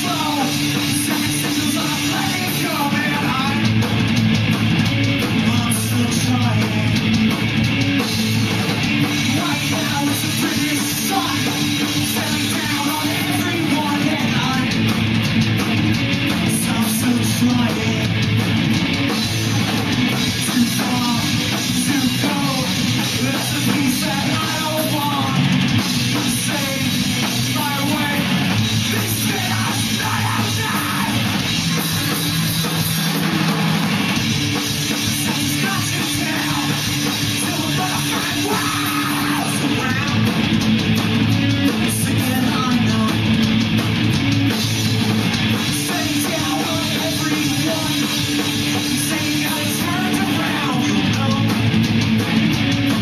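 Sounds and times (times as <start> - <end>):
distorted electric guitars: 0.0 - 53.0
drum kit: 0.0 - 53.0.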